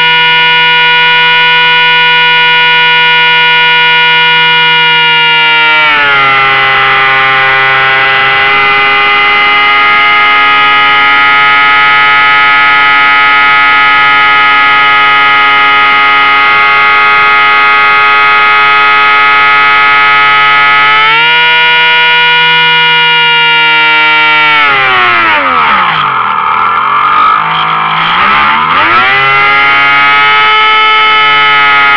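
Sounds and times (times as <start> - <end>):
electric motor and propeller whine: 0.0 - 31.9.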